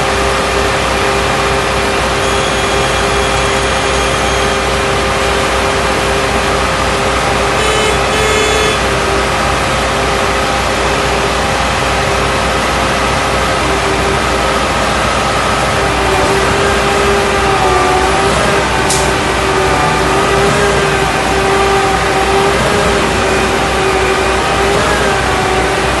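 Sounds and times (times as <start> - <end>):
heavy machinery engine running: 0.0 - 26.0
high-pitched whine: 0.0 - 26.0.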